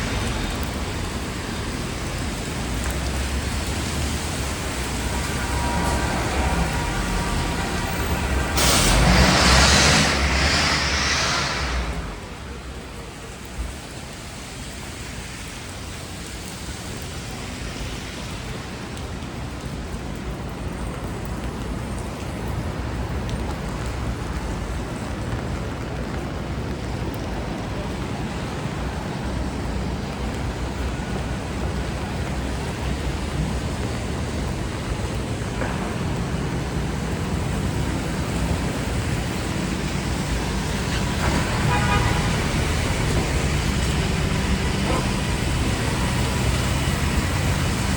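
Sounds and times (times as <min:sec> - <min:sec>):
steady rain: 0:00.0 - 0:47.9
traffic rumble on wet street: 0:00.0 - 0:47.9.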